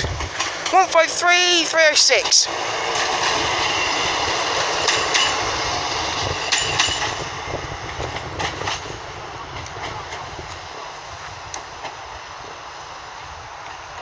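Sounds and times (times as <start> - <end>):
diesel railcar rumbling: 0.0 - 14.0
train wheels clicking over rail joints: 0.0 - 14.0.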